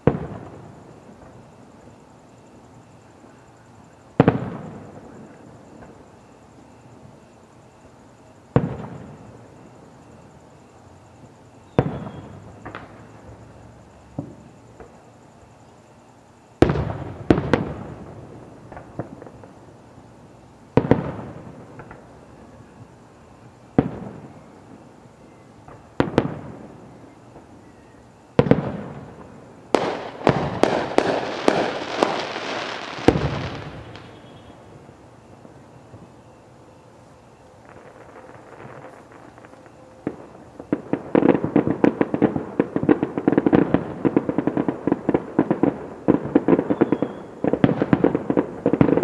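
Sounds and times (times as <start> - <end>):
fireworks booming: 0.0 - 2.1, 2.7 - 7.3, 8.4 - 15.1, 16.6 - 19.8, 20.6 - 24.9, 25.6 - 36.8, 37.6 - 49.0
fireworks crackling: 0.0 - 16.0, 16.6 - 49.0.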